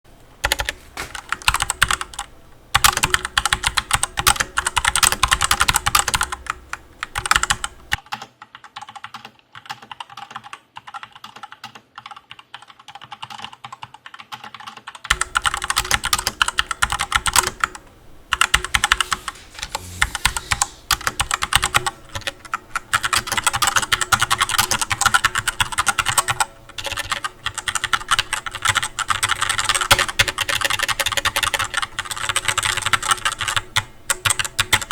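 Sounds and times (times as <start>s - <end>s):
fast typing on mechanical keyboard: 0.4s - 34.9s.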